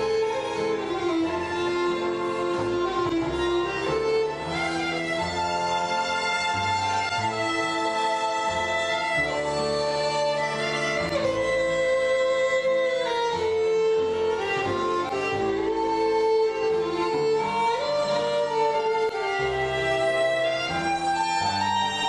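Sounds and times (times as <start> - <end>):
double bass: 0.0 - 22.0
fiddle playing a waltz: 0.0 - 22.0.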